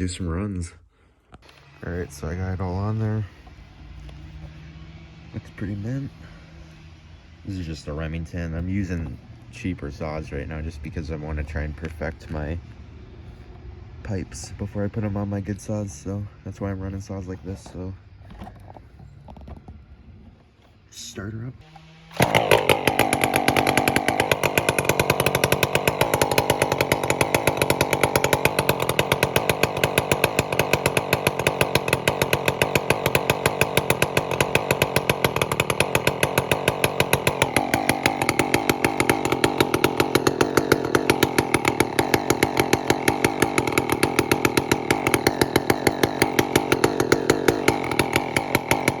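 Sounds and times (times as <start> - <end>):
chainsaw running: 1.2 - 13.6, 14.2 - 19.6, 20.6 - 49.0.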